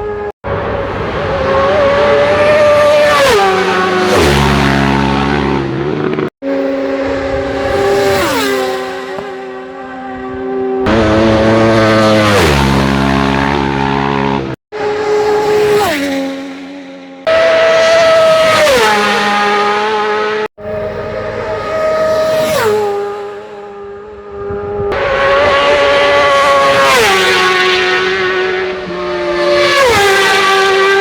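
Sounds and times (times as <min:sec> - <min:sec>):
racing motorcycles passing: 0:00.0 - 0:31.0.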